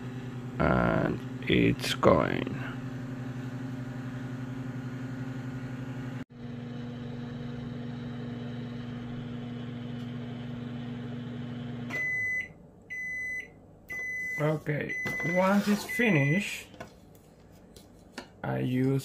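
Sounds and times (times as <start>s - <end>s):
microwave oven humming: 0.0s - 16.6s.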